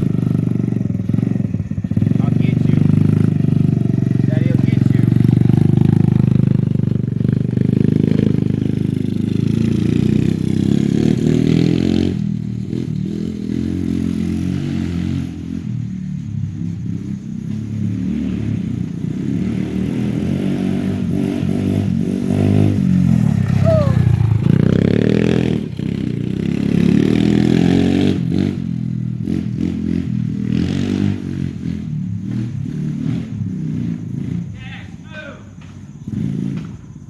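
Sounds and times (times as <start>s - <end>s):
quad bike engine revving: 0.0s - 34.6s, 36.0s - 36.9s.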